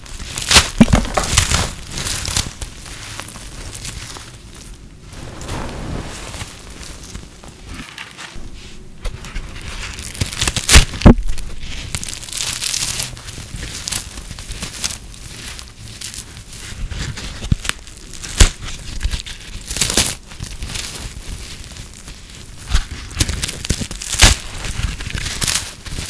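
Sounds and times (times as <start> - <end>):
brittle soap crunching: 0.0 - 5.0, 9.1 - 26.0.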